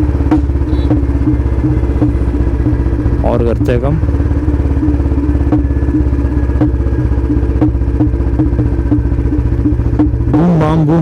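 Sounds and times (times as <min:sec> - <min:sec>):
motorcycle engine thudding: 0:00.0 - 0:10.4
exhaust pops: 0:00.0 - 0:11.0.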